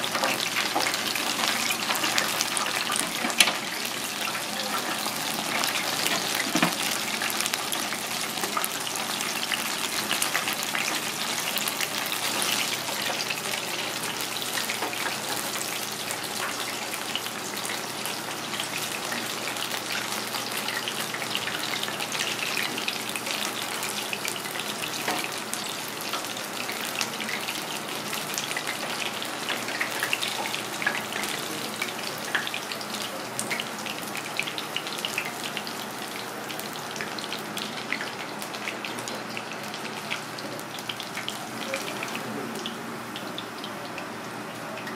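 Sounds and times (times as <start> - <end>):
oil sizzling in a deep fryer: 0.0 - 44.9.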